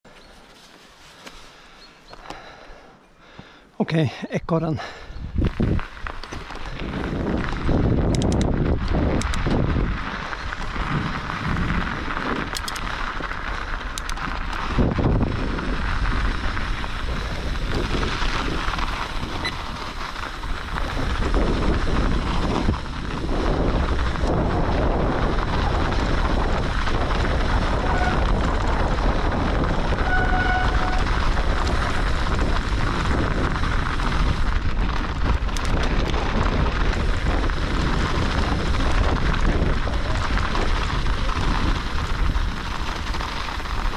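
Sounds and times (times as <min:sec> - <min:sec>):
bike tyres rolling on snow: 0:00.0 - 0:43.9
wind buffeting microphone: 0:04.7 - 0:43.9
bike rattling and clicking: 0:05.3 - 0:43.9.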